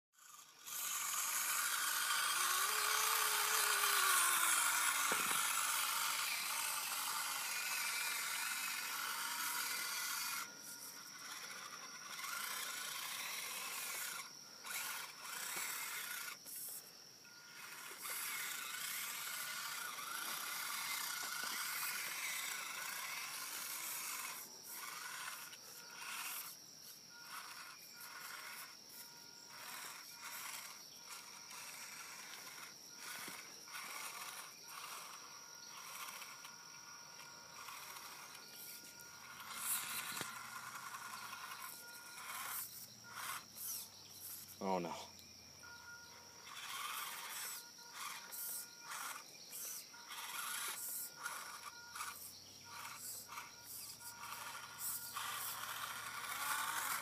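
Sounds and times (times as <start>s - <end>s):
small electric motor whining: 0.1s - 57.0s.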